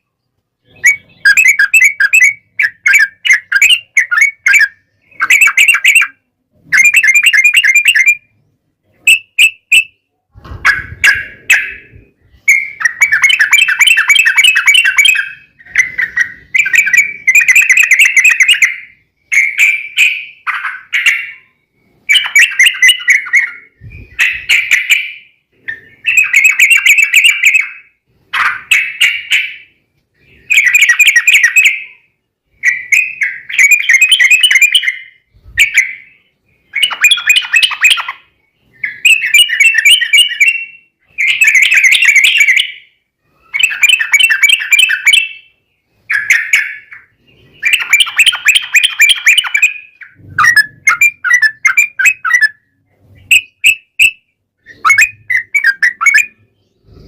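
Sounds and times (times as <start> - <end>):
birds singing bubbly chattering phrases: 0.0 - 8.4, 10.6 - 57.0.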